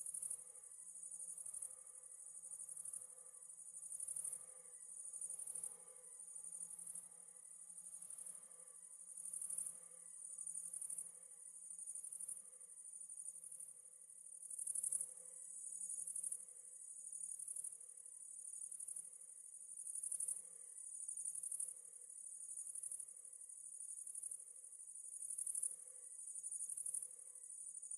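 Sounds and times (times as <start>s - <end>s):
crickets chirping: 0.1s - 27.9s.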